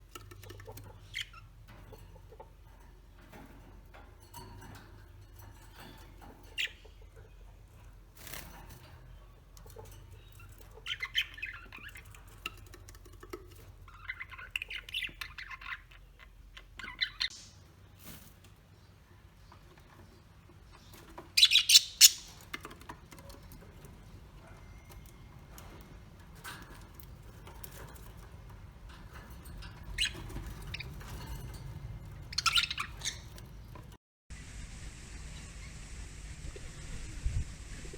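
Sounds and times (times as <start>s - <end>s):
birds squawking and chirping: 0.4s - 4.8s, 5.4s - 18.2s, 18.9s - 34.0s.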